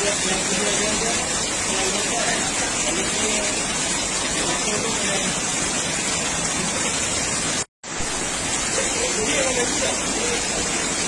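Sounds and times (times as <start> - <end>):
heavy rain: 0.0 - 11.0
rushing floodwater: 0.0 - 11.0.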